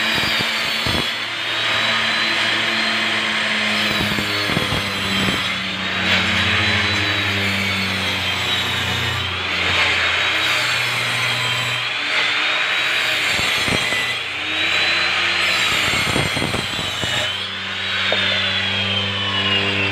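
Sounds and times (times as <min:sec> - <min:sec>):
circular saw motor whine: 0:00.0 - 0:19.9.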